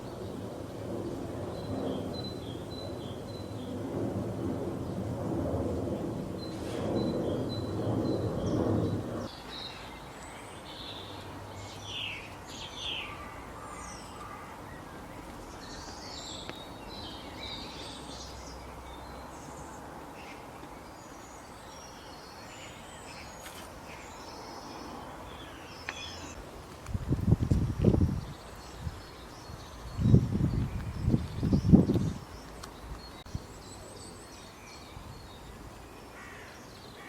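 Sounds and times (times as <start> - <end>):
outdoor background hiss: 0.0 - 37.0.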